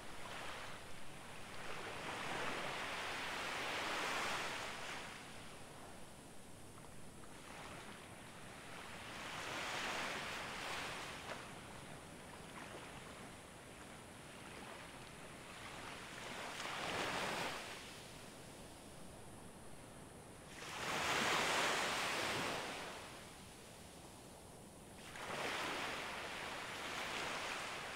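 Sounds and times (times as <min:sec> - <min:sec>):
waves breaking on sandy beach: 0:00.0 - 0:06.0, 0:07.3 - 0:18.5, 0:20.5 - 0:23.6, 0:25.0 - 0:27.9.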